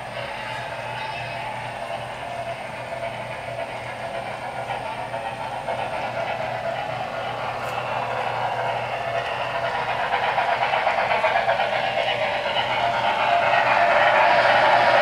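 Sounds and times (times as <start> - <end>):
model steam locomotive sounds: 0.0 - 15.0.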